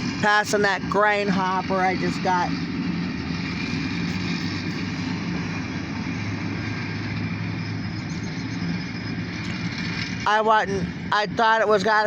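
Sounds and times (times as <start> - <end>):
diesel locomotives passing: 0.0 - 12.0.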